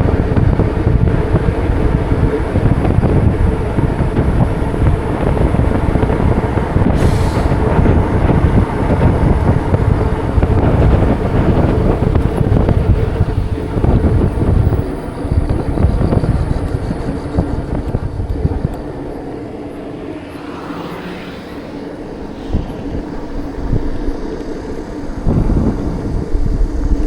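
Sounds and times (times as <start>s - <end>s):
road and traffic noise: 0.0s - 27.0s
wind buffeting microphone: 0.0s - 27.0s.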